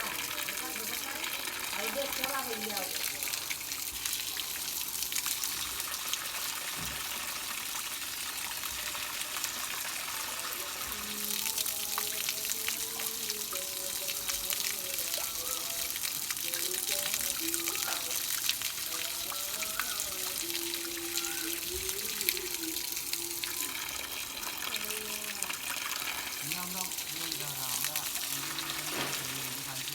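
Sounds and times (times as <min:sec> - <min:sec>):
water gushing with hiss: 0:00.0 - 0:29.9.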